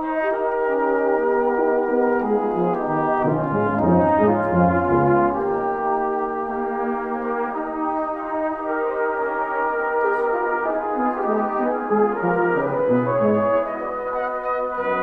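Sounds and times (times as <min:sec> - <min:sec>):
brass band playing chords: 0:00.0 - 0:15.0
low brass short notes: 0:00.0 - 0:15.0.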